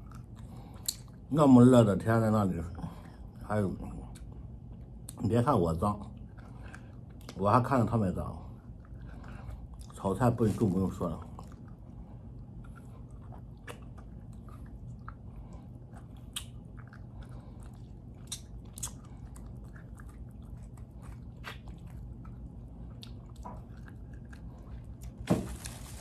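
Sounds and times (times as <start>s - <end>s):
person chewing crunchy food: 0.0s - 1.3s, 6.0s - 26.0s
air conditioner hum: 0.0s - 26.0s.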